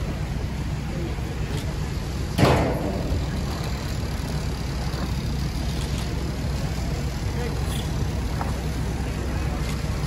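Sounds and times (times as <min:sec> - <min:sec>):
fire engines rumbling: 0:00.0 - 0:10.0.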